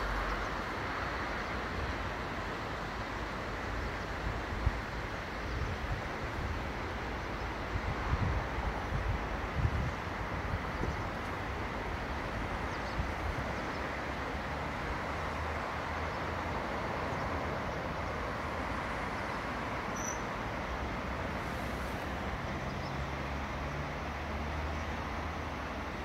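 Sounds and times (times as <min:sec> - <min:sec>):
faint road traffic hum: 0:00.0 - 0:26.0
river rushing: 0:00.0 - 0:26.0.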